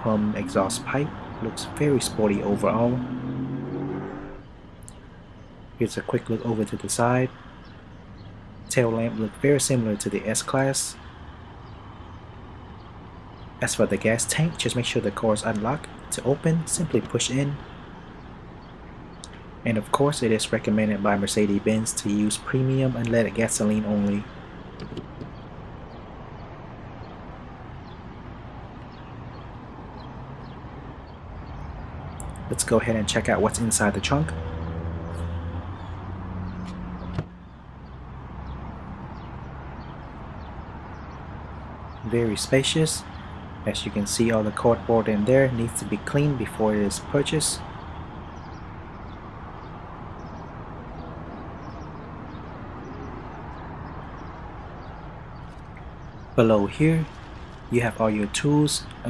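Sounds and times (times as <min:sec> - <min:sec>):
distant traffic: 0:00.0 - 0:59.0.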